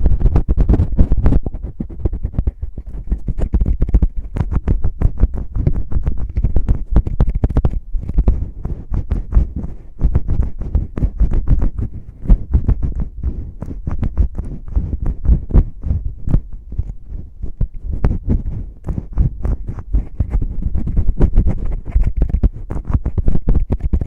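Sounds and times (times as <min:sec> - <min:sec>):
fingers rubbing on a microphone: 0:00.0 - 0:24.0.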